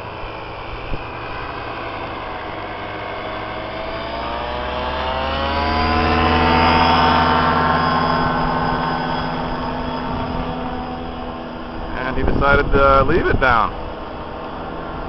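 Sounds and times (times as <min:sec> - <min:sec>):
paraglider engine droning: 0:00.0 - 0:15.0.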